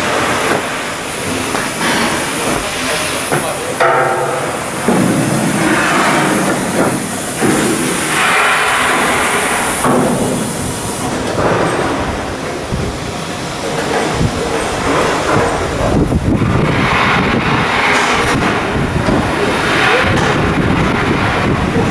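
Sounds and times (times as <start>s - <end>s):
machinery running and hissing: 0.0s - 21.9s.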